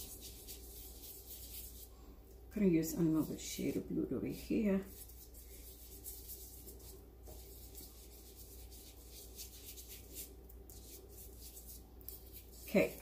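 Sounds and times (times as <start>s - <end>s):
paintbrush scratching on paper: 0.0s - 1.9s, 3.0s - 13.0s
low steady hum: 0.0s - 13.0s.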